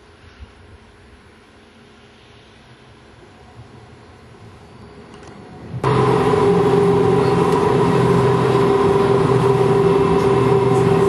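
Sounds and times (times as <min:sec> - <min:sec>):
streetcar drive whine: 0:00.0 - 0:11.0
streetcar rumbling running noise: 0:00.0 - 0:11.0.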